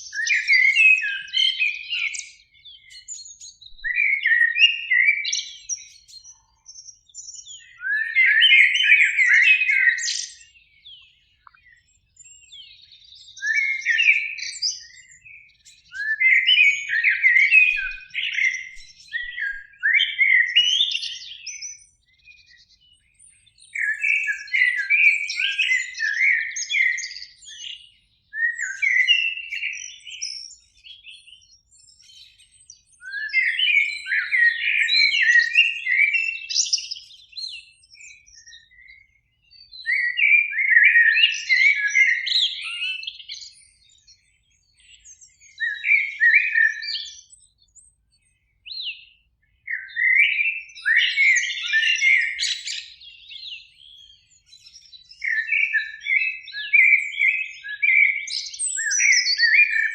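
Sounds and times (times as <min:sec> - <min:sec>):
blackbird singing: 0:00.0 - 0:59.9.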